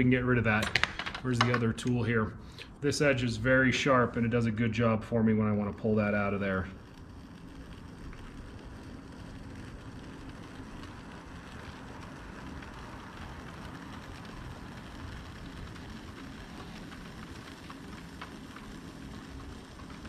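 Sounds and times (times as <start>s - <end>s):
pottery wheel humming: 0.0s - 20.0s.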